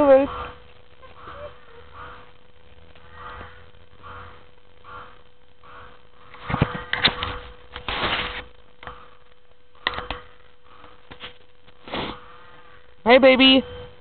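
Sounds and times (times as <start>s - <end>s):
faint electronic hum: 0.0s - 14.0s.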